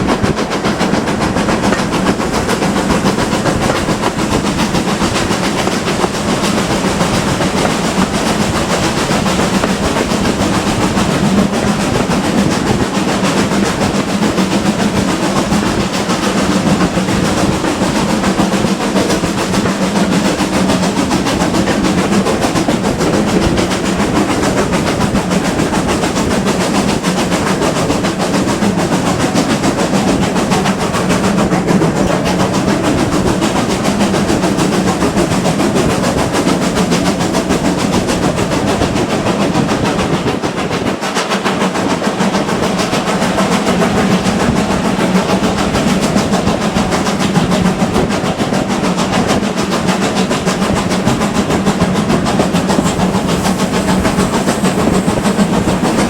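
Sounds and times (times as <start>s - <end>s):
steam train running rumble: 0.0s - 56.0s.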